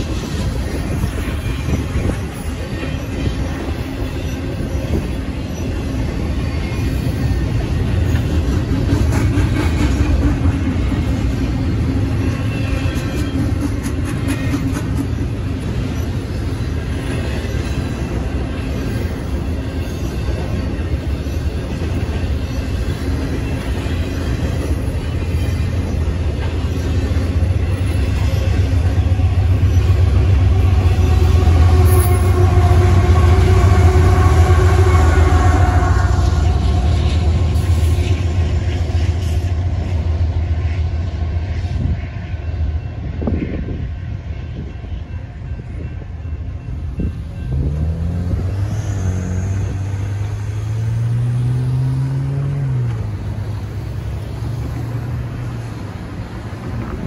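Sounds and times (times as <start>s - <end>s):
diesel locomotive engine tones: 0.0s - 57.0s
freight train wheels rumbling: 0.0s - 57.0s.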